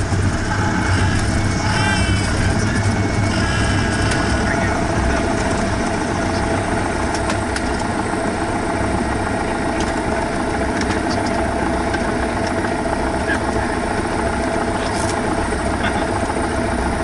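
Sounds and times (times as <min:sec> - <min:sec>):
plane piston engine running: 0:00.0 - 0:16.6.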